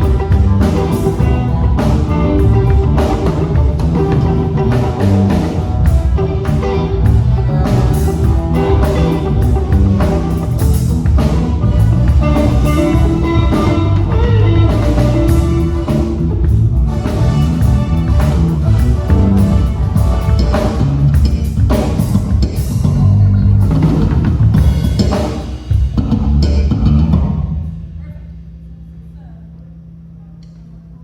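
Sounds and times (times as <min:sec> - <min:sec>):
live band playing instrumental: 0:00.0 - 0:26.5.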